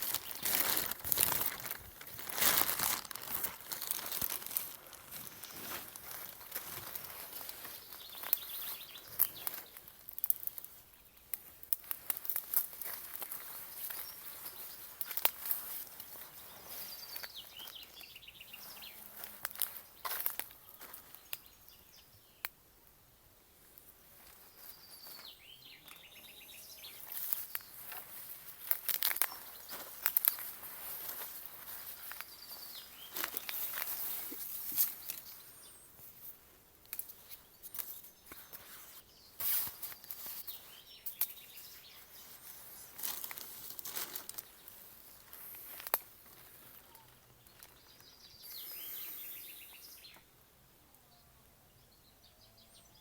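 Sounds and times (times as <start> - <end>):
birds chirping: 0.0 - 36.3, 36.9 - 53.0
rustling in dry ground cover: 0.0 - 50.4.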